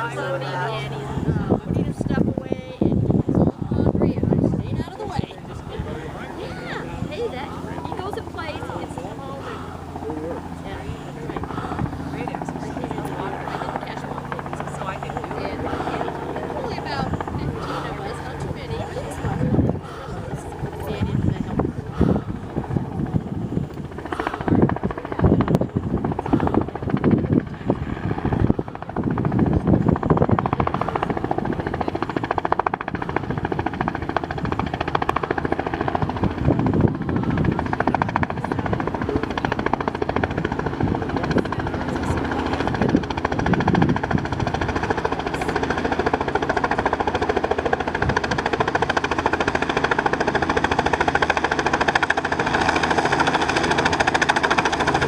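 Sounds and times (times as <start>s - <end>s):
helicopter rotor chopping: 0.0s - 55.0s.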